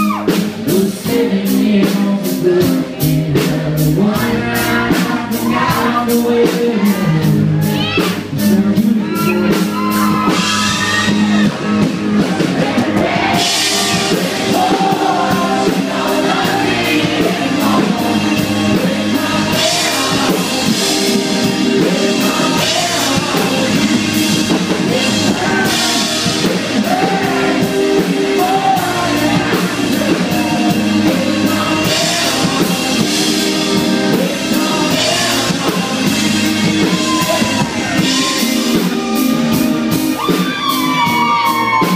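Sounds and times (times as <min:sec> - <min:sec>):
man singing: 0:00.0 - 0:39.3
live band music: 0:00.0 - 0:41.9.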